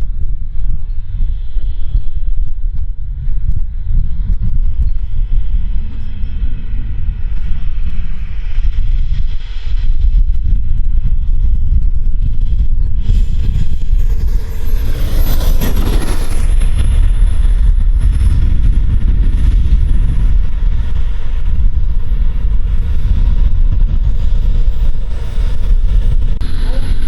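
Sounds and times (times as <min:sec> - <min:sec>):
jet turbine high whine: 0:00.0 - 0:27.0
wind rumble on microphone: 0:00.0 - 0:27.0.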